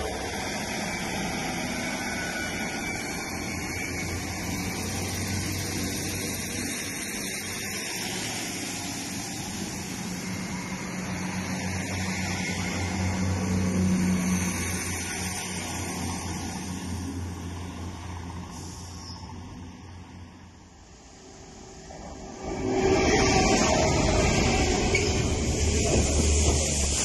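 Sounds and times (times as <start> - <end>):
diesel train rumbling past: 0.0 - 27.0.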